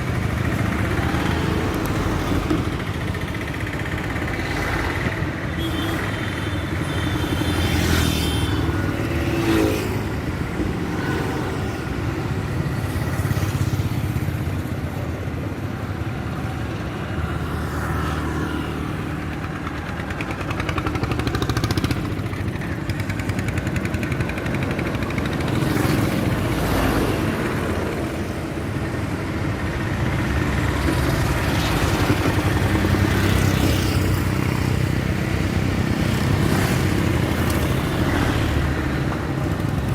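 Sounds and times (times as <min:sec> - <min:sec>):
highway traffic rumble: 0:00.0 - 0:39.9
motorcycles passing: 0:00.0 - 0:39.9.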